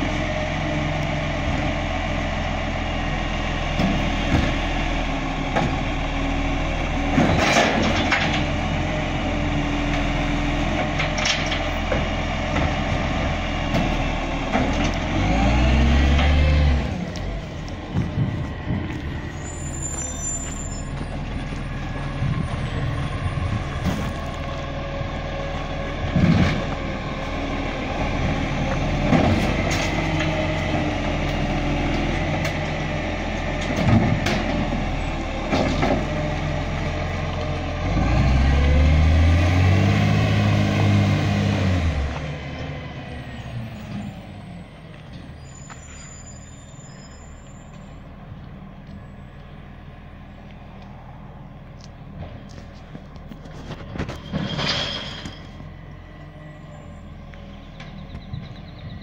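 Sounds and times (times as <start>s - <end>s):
diesel truck engine idling and revving: 0.0s - 59.0s.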